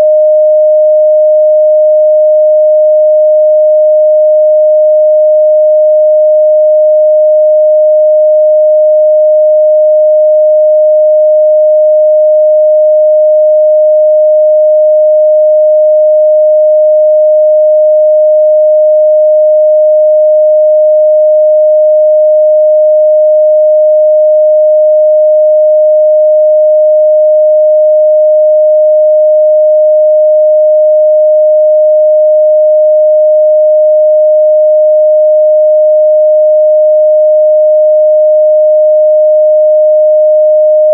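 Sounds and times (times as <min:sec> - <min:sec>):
sine wave test tone: 0:00.0 - 0:40.9.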